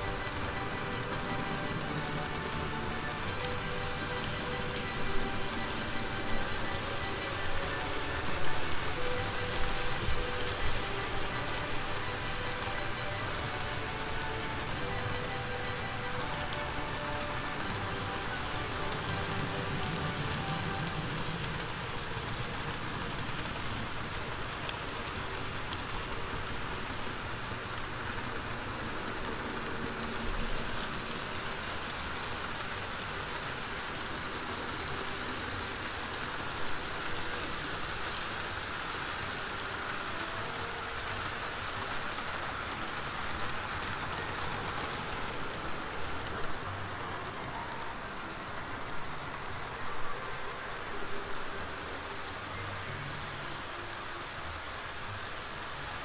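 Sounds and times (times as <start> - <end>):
model train wheels rumbling: 0.0 - 56.0.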